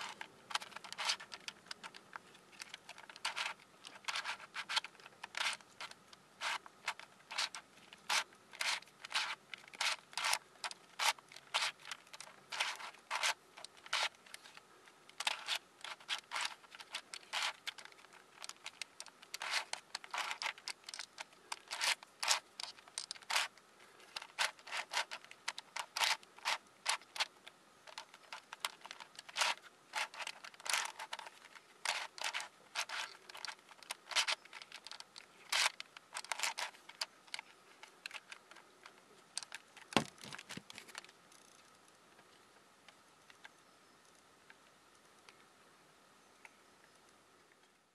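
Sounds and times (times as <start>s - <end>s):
plastic puzzle clicking turns: 0.0s - 41.6s.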